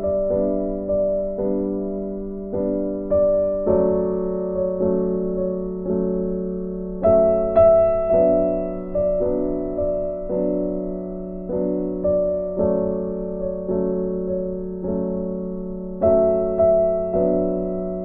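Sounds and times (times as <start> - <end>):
soft slow piano music: 0.0 - 18.0.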